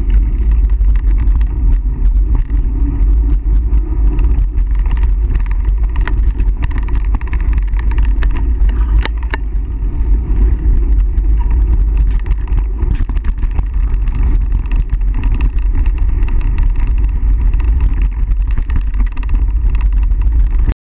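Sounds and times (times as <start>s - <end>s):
bike rattling over bumps: 0.0s - 20.8s
tyres rumbling on dirt trail: 0.0s - 20.8s
wind on microphone: 0.0s - 20.8s
sharp clacks: 0.1s - 9.6s, 10.8s - 20.7s.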